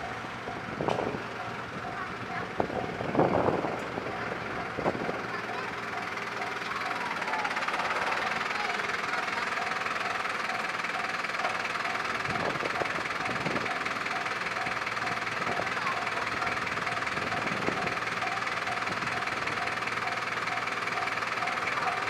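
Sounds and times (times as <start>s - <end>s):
level crossing alarm ringing: 0.0s - 22.0s
train passing: 0.0s - 22.0s.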